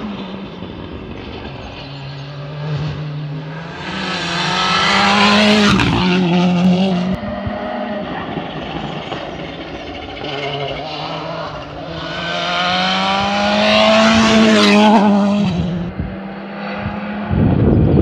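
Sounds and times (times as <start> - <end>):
rally car engine at hard throttle: 0.0 - 18.0.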